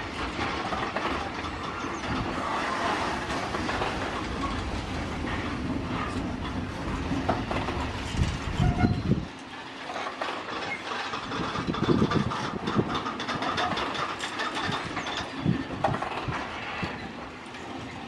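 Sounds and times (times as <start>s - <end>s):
freight wagons rumbling: 0.0s - 18.0s
wheels clattering over rail joints: 0.0s - 18.0s.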